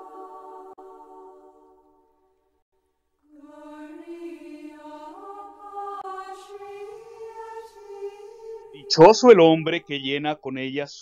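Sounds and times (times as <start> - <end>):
slow music of held tones: 0.0 - 10.4.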